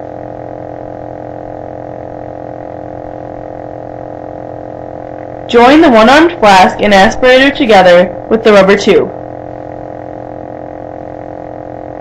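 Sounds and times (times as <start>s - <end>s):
steady hum of held tones: 0.0s - 12.0s.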